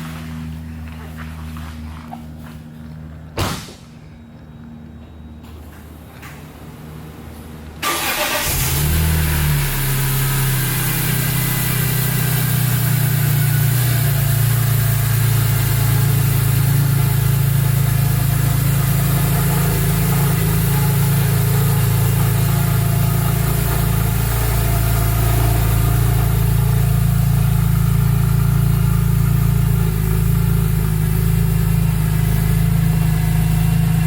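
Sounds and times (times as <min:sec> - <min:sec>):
car engine starting and idling: 0:06.2 - 0:34.0.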